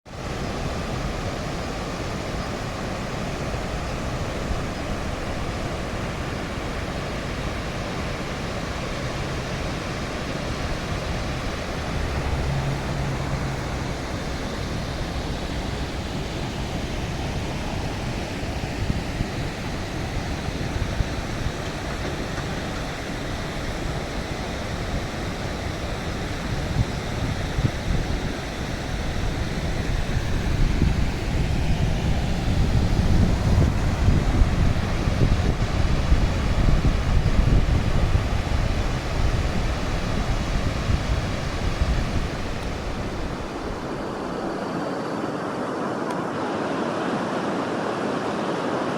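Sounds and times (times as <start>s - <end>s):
river water rushing at a weir: 0.1s - 48.9s
wind gusting on microphone: 0.1s - 48.9s.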